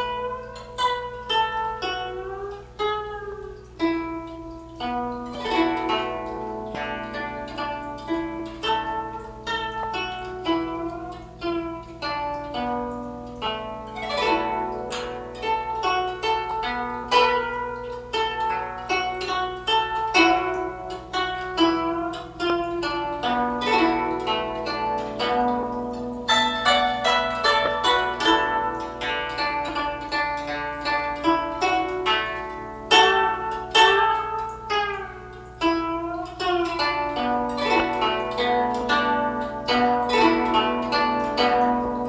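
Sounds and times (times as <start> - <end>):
zither plucked melody: 0.0 - 42.0.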